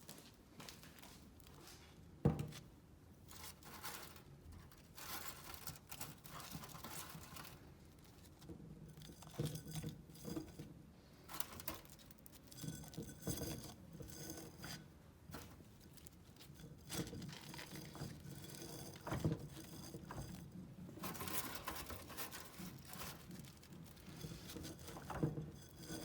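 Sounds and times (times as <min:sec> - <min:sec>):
scrap rustling and scraping: 0:00.0 - 0:26.0.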